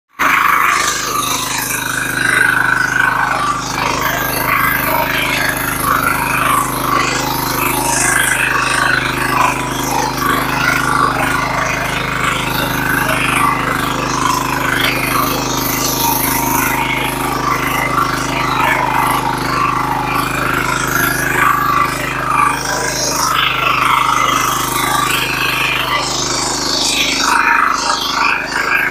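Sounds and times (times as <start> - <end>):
diesel weeder engine running: 0.2 - 28.9.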